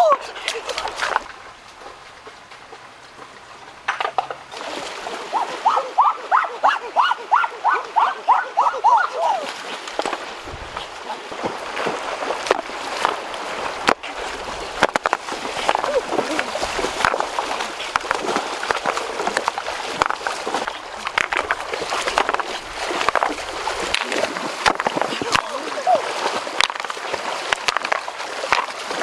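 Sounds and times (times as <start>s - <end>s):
water sloshing and splashing: 0.0s - 29.0s.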